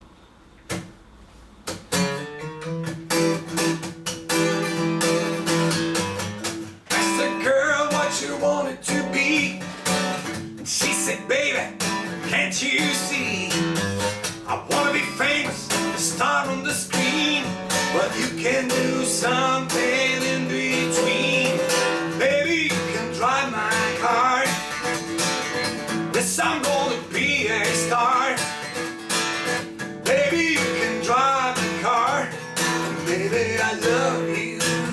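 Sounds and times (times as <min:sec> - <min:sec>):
guitar music: 0:01.6 - 0:34.9.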